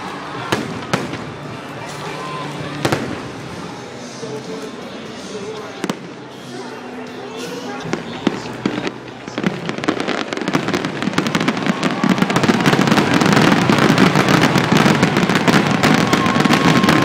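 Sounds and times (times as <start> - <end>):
fireworks banging and crackling: 0.0 - 6.4, 7.2 - 17.0.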